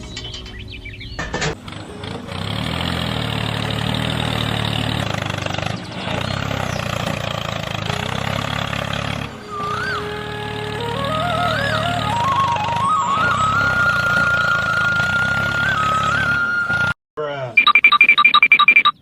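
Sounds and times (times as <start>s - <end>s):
tractor engine idling: 0.0s - 16.6s.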